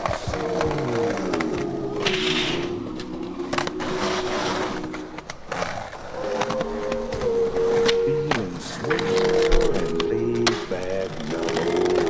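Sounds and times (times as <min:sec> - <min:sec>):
skateboard clacks: 0:00.0 - 0:02.8, 0:03.5 - 0:12.0
background music: 0:00.0 - 0:12.0
skateboard scraping: 0:00.0 - 0:12.0
skateboard wheels rolling: 0:00.0 - 0:12.0.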